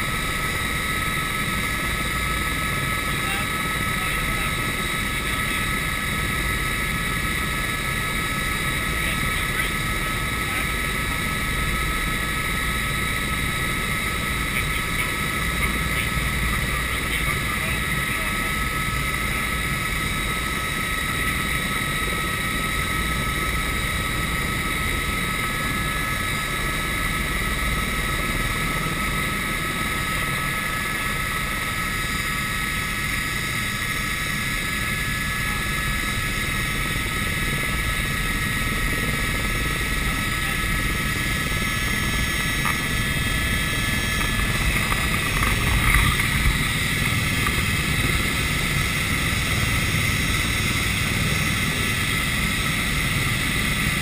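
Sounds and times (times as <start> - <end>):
helicopter rotor rumble: 0.0 - 54.0
helicopter turbine whine: 0.0 - 54.0.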